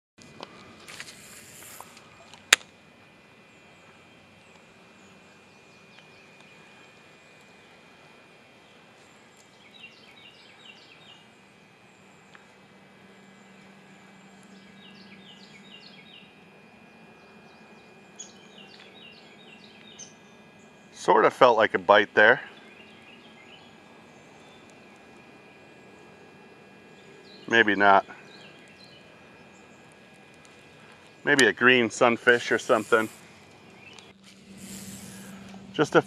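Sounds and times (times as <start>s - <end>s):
insect drone: 0.2s - 36.0s
birds chirping: 3.1s - 36.0s.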